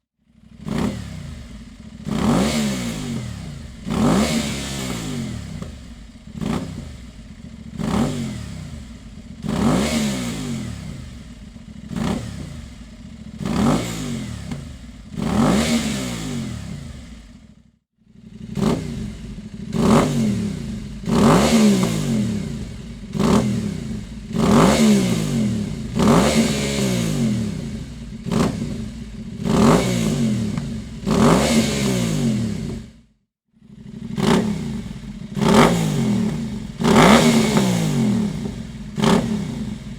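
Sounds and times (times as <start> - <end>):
motorcycle engine revving: 0.3 - 39.9.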